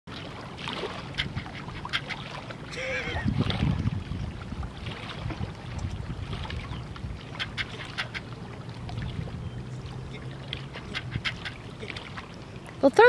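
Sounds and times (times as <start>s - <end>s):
water lapping against dock: 0.1s - 13.0s.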